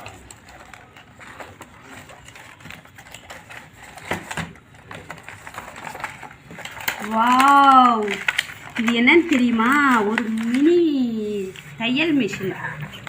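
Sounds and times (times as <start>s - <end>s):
parcel unpacking clicks and rustling: 0.0s - 13.0s.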